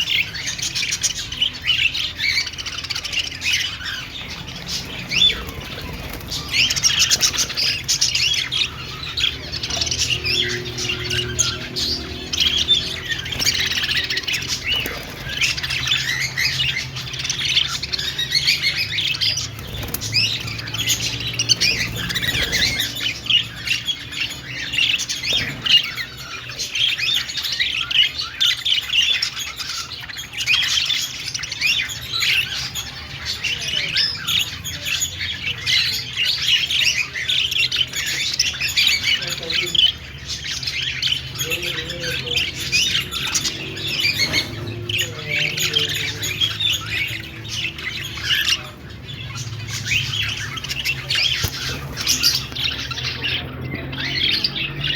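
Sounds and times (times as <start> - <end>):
budgerigars chirping and squawking: 0.0 - 54.9.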